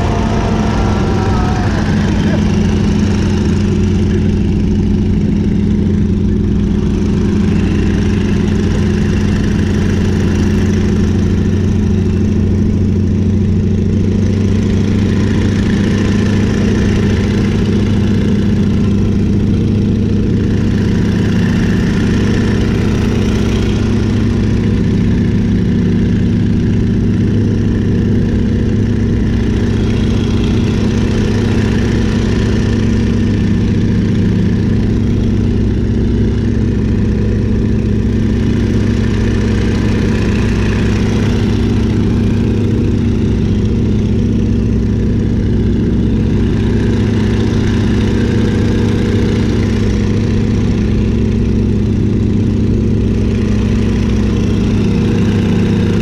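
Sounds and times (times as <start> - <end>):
airplane engine droning: 0.0 - 13.4, 14.0 - 56.0.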